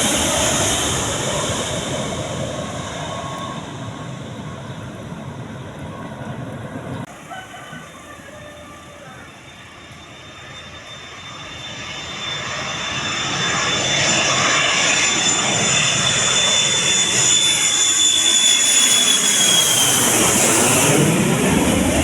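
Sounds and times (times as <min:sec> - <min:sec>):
high turbine whine: 0:00.0 - 0:22.0
jet engines of passing airliner: 0:00.0 - 0:22.0.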